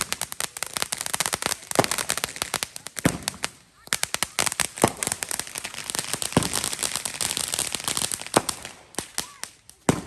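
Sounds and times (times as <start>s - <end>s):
firework bangs: 0.0s - 10.0s
fireworks crackling: 0.0s - 10.0s.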